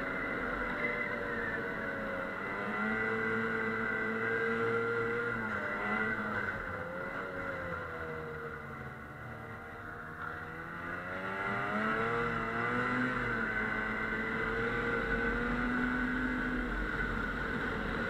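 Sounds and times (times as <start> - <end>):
snowmobile engine revving: 0.1 - 8.3, 10.4 - 18.0.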